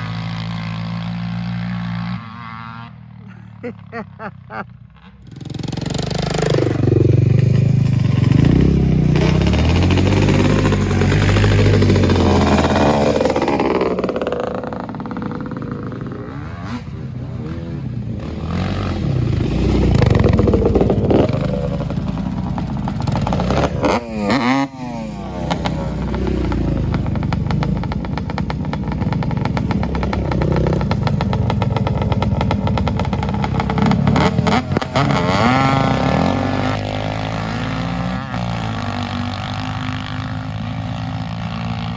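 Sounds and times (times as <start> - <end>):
atv engines revving: 0.0 - 41.9.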